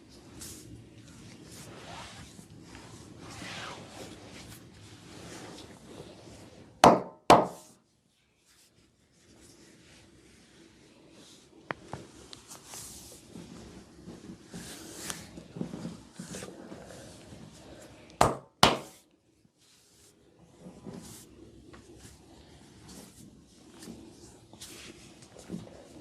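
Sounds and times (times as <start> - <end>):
soft rustling: 0.0 - 6.8, 7.6 - 18.2, 19.0 - 26.0.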